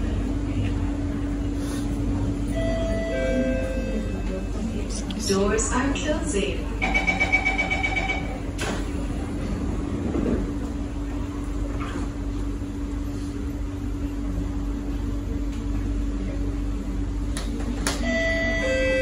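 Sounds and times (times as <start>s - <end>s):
station announcement: 0.0s - 12.9s, 13.6s - 19.0s
train rumbling inside carriage: 0.0s - 19.0s.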